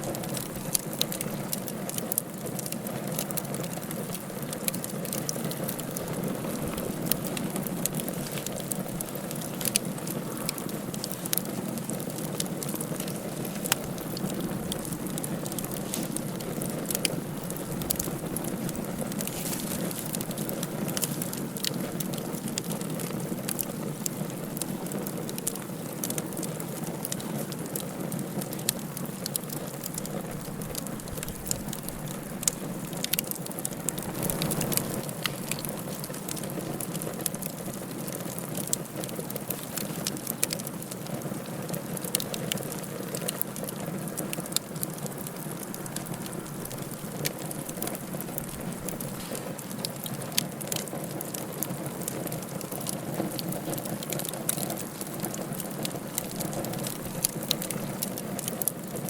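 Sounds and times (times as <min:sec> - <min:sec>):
wood fire crackling and hissing: 0:00.0 - 0:59.0.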